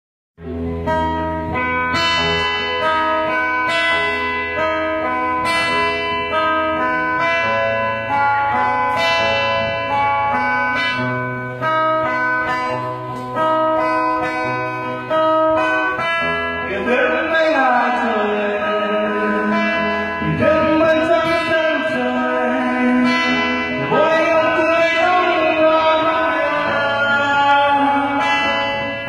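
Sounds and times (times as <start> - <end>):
slow plucked guitar melody: 0.4 - 29.0.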